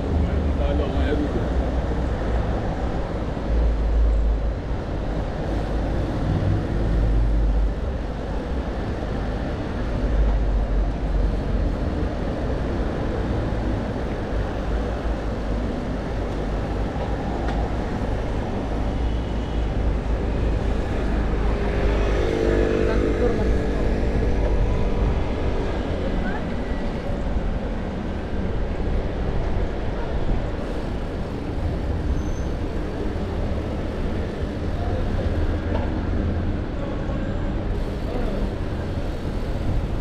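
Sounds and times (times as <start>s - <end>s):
passing motor traffic: 0.0s - 40.0s
tyres rumbling on road: 0.0s - 40.0s.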